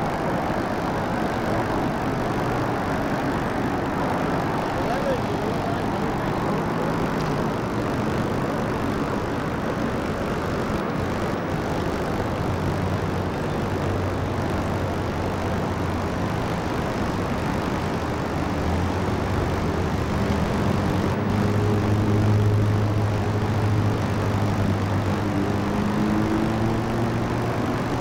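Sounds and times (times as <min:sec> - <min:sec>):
boat engine drone: 0:00.0 - 0:28.0
rush of wind and water: 0:00.0 - 0:28.0.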